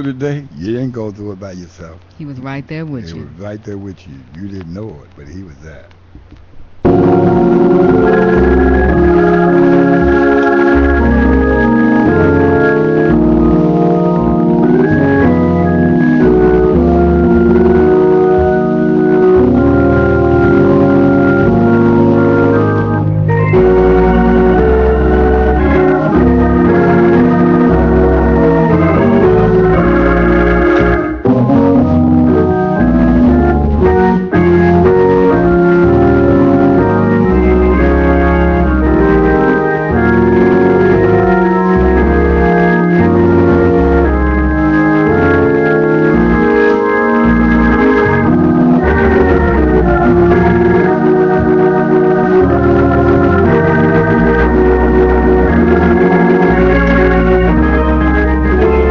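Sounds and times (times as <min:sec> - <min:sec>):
gospel organ music: 0:00.0 - 0:58.9.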